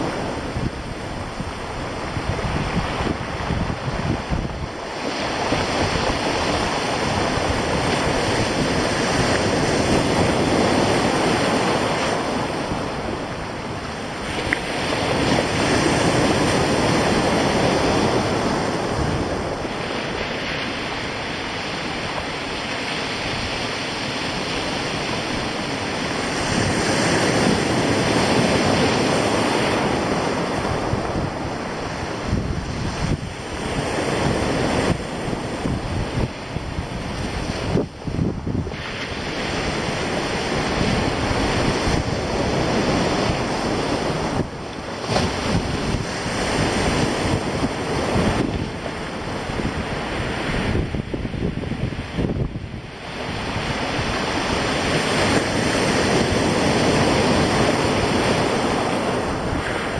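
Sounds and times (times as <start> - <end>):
surf breaking on stony shore: 0.0 - 59.9
wind blowing: 0.0 - 59.9.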